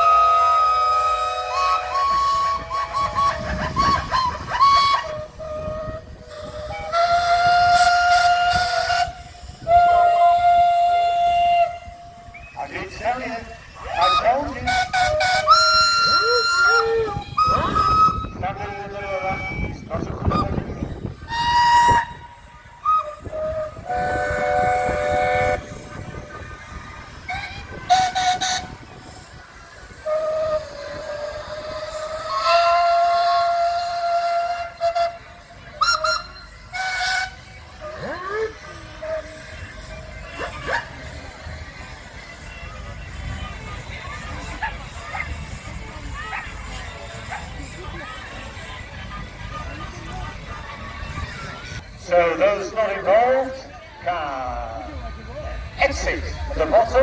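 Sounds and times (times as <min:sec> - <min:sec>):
steam engine whistles blowing: 0:00.0 - 0:50.0.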